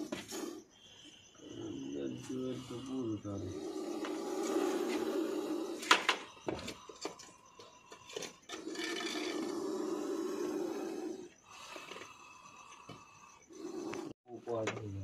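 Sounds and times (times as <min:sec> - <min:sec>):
steady hissing noise: 0:00.0 - 0:08.3, 0:09.0 - 0:14.2.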